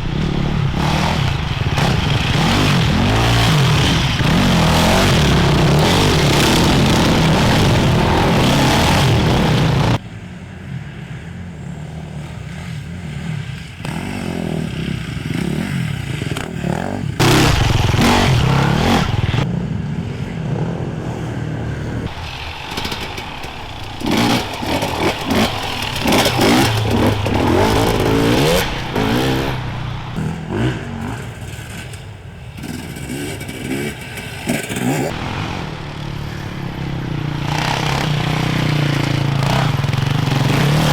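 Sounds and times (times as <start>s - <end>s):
motorcycles revving past: 0.0s - 40.9s.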